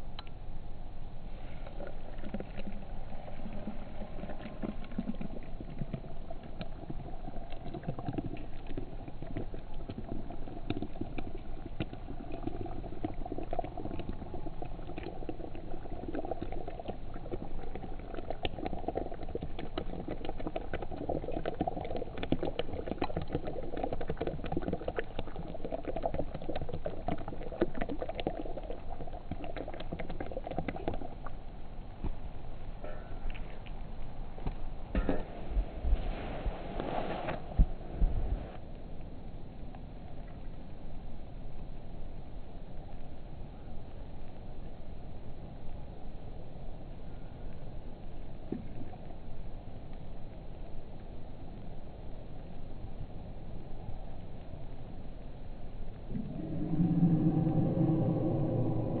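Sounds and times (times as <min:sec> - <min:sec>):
water boiling and bubbling: 0:01.2 - 0:38.7, 0:47.6 - 0:59.0.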